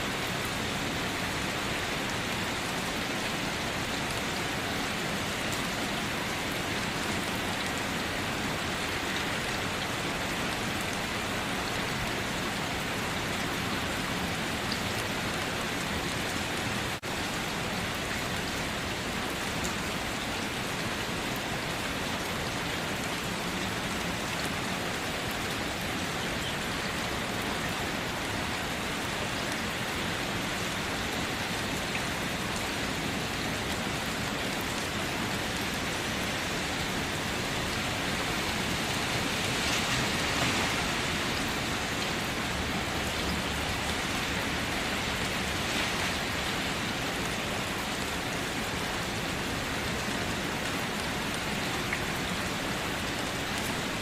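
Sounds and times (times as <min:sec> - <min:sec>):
dense rain falling: 0:00.0 - 0:54.0.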